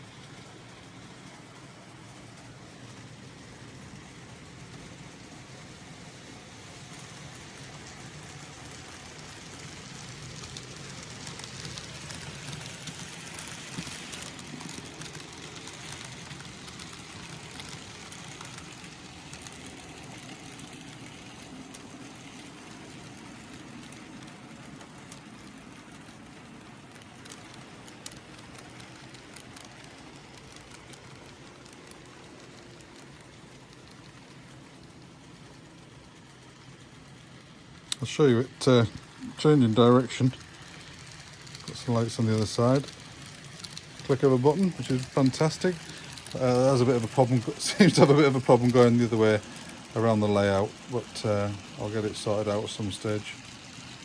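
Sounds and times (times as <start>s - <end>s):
model train motor hum: 0.0s - 54.0s.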